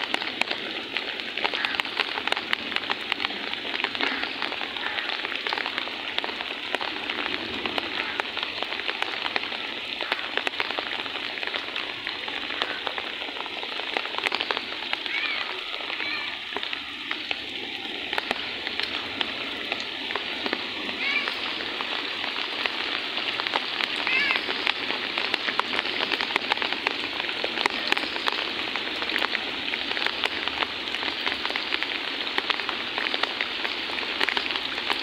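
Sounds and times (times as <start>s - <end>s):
heavy rain on standing water: 0.0s - 35.0s.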